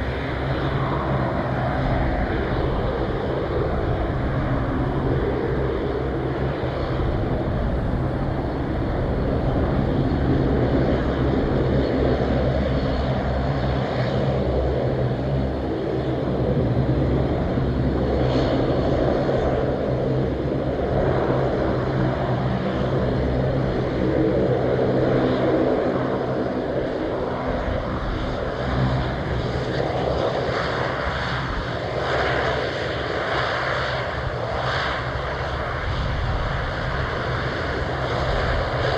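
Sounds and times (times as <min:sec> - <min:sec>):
airplane engines humming: 0:00.0 - 0:38.9.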